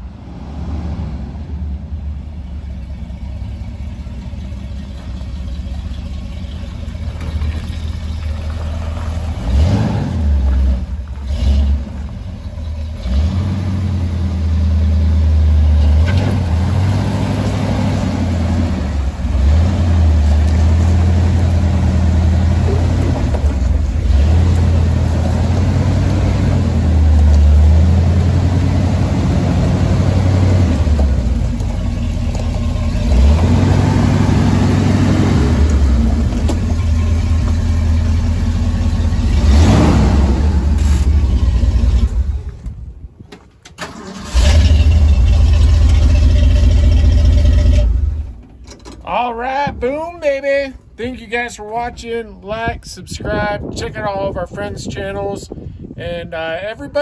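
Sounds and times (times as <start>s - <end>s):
pickup truck engine revving: 0.0s - 42.9s, 43.8s - 48.4s.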